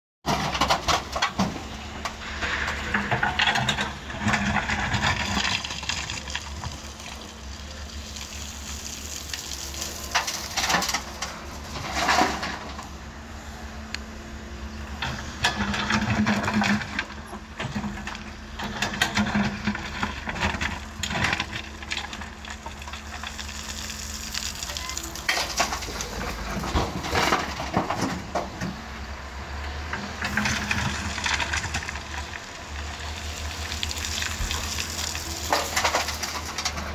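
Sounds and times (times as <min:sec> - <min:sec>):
bucket digging and dumping load: 0:00.2 - 0:07.4, 0:09.6 - 0:13.0, 0:15.0 - 0:29.0, 0:29.8 - 0:36.9
excavator diesel engine running: 0:00.3 - 0:36.9.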